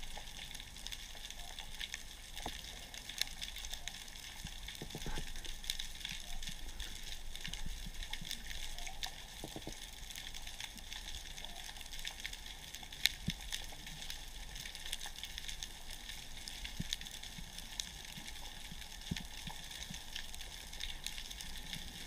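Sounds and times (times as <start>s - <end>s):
underwater crackling clicks: 0.0s - 22.0s.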